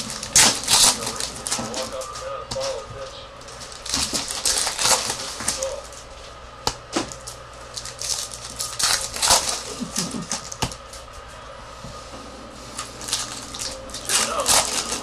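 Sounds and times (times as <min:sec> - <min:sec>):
cards and foil wrappers rustling: 0:00.0 - 0:06.3, 0:07.0 - 0:11.2, 0:12.7 - 0:15.0
faint steady hum: 0:00.0 - 0:15.0.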